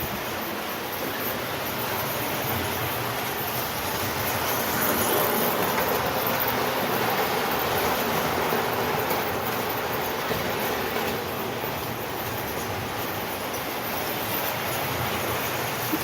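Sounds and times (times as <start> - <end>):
toy train running on track: 0.0 - 16.0.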